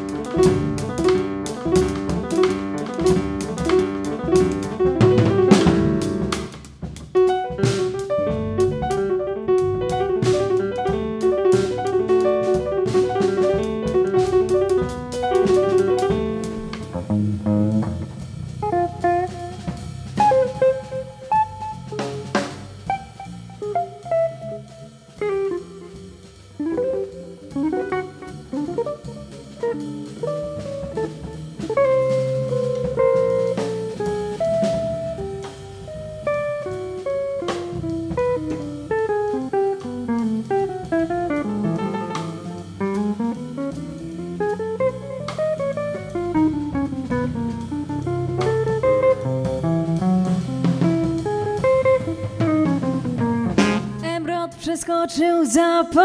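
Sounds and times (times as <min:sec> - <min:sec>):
plucked string melody: 0:00.0 - 0:06.4, 0:07.3 - 0:22.4, 0:26.6 - 0:54.3
drum kit and cymbals: 0:00.0 - 0:56.0.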